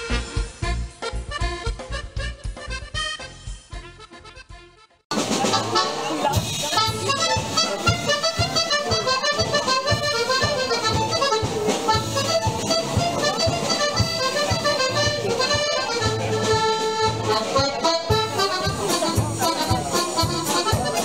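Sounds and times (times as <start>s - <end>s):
accordion dance music: 0.0s - 21.0s.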